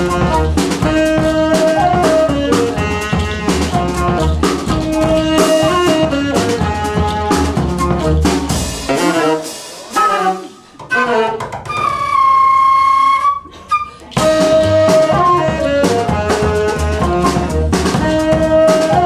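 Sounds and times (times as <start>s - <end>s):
jazz band playing: 0.0s - 19.0s
wind instrument solo: 0.0s - 19.0s.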